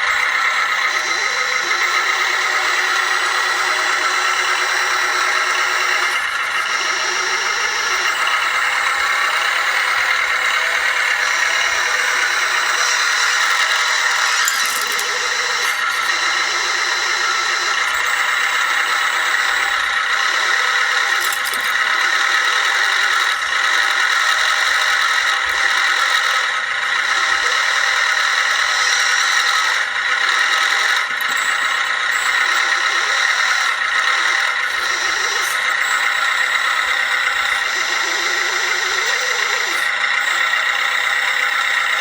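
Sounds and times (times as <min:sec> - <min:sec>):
high-pitched mechanical whine: 0:00.0 - 0:42.0.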